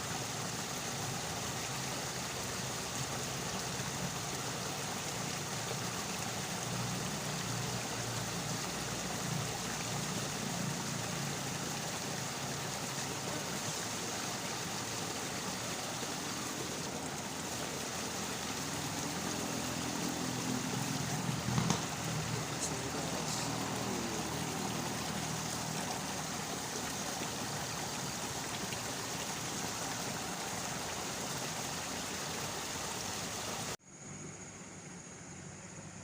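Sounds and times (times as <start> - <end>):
rushing water hiss: 0.0 - 36.0.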